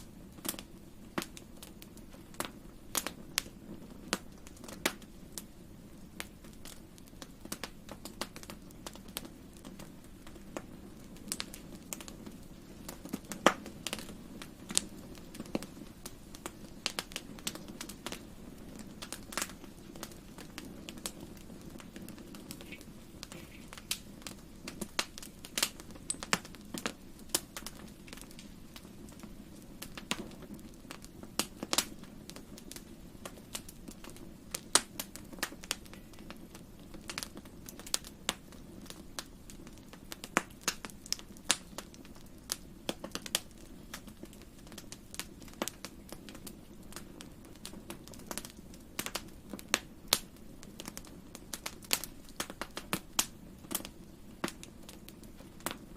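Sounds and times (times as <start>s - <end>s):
flames rumbling: 0.0s - 55.9s
wood fire popping and snapping: 0.0s - 55.9s.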